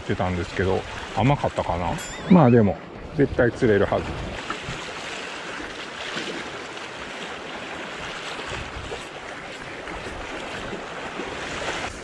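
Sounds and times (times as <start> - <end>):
sea water rushing: 0.0 - 12.0
wind: 0.0 - 12.0.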